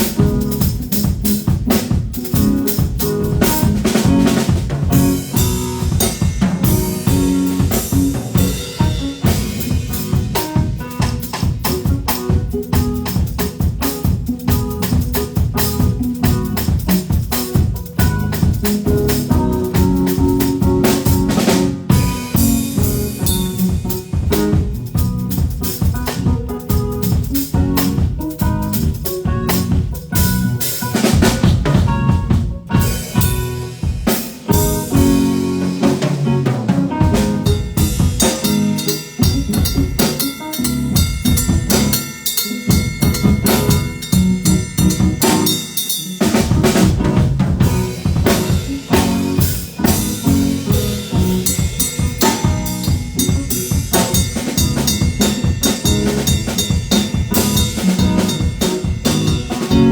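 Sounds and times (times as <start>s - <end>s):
drum kit groove: 0.0s - 59.9s
live band playing: 0.0s - 59.9s.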